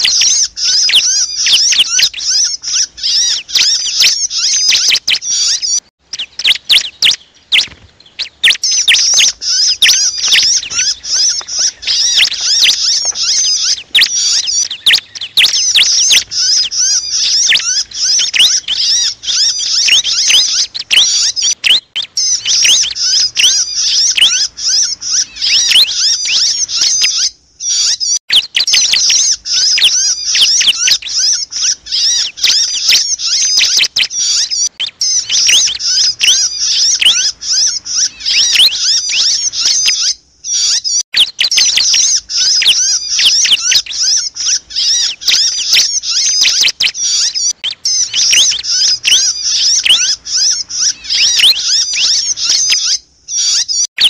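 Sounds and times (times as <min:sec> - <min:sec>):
bird shrill distress calls: 0:00.0 - 0:54.0.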